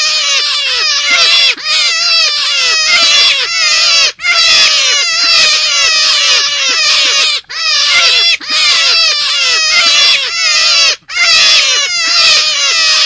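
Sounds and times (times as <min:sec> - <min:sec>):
high squealing animal calls: 0:00.0 - 0:13.0.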